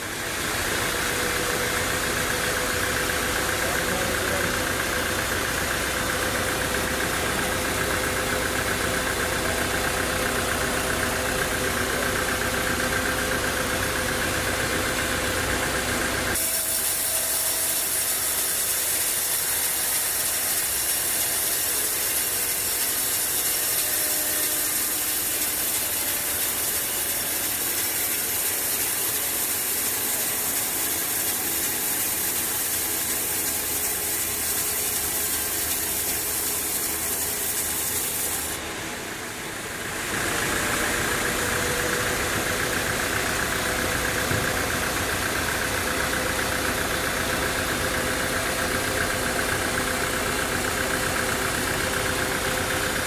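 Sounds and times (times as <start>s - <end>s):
sawmill machinery droning: 0.0s - 53.0s.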